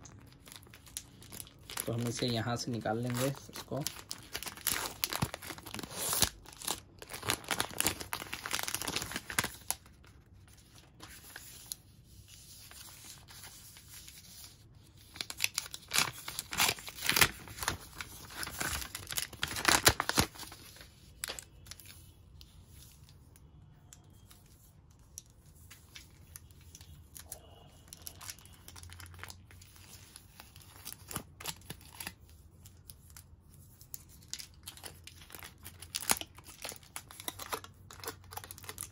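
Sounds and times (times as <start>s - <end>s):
wrapper crinkling and tearing: 0.0s - 11.9s, 12.6s - 23.3s, 25.0s - 38.9s.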